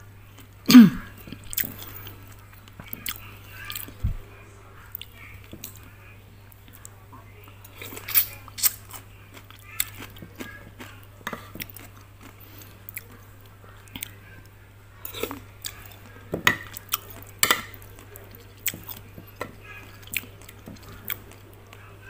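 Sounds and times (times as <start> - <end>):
faint low hum: 0.0 - 22.0
chewing: 1.2 - 4.1, 4.8 - 5.9, 6.5 - 21.9.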